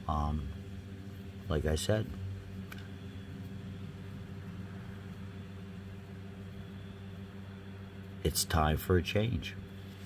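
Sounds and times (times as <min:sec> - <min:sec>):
low motor hum: 0:00.0 - 0:10.0.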